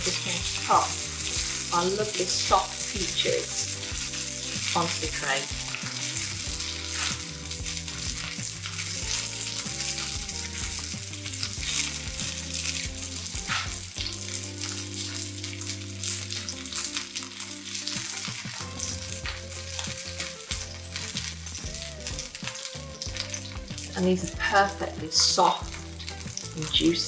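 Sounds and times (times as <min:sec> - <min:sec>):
fruit sizzling on a griddle pan: 0:00.0 - 0:27.0.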